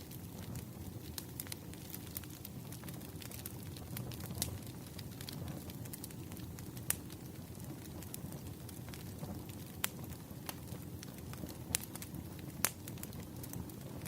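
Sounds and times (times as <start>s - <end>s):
sharp fire pops: 0.0s - 14.0s
wood fire crackling: 0.0s - 14.0s.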